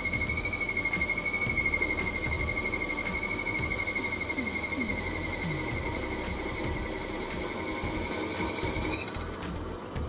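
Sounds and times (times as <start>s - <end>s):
wood lathe whining: 0.0s - 9.4s.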